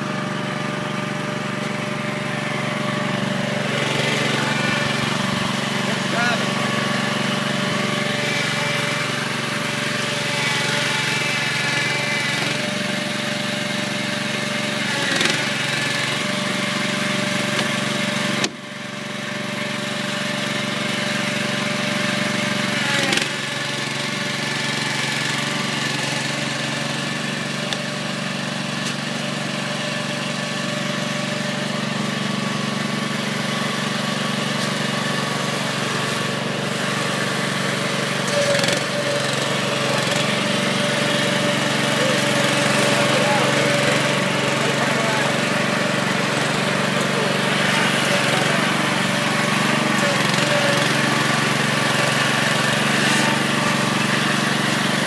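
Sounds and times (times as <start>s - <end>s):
small gasoline engine running: 0.0s - 55.0s.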